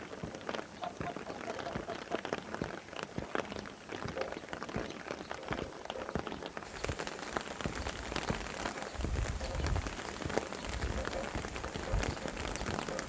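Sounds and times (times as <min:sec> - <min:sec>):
rain drops tapping: 0:00.0 - 0:13.0.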